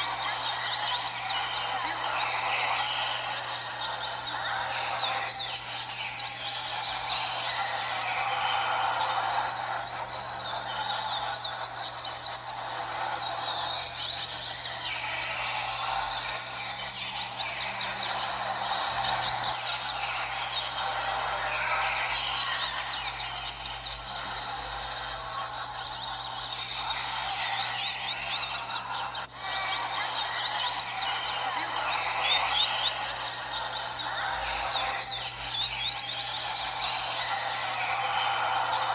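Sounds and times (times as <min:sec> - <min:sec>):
chorus of birds chirping: 0:00.0 - 0:38.9
faint steady hum: 0:00.0 - 0:38.9.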